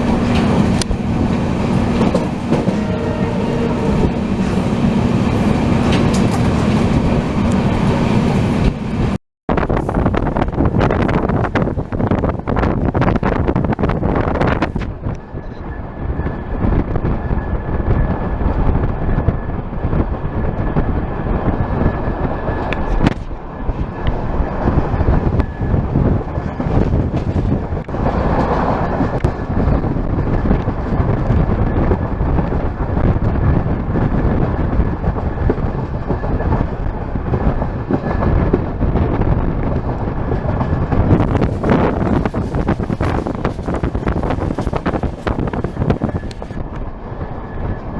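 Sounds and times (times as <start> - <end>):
train wheels rumbling on rails: 0.0 - 47.9
wind on microphone: 0.0 - 47.9.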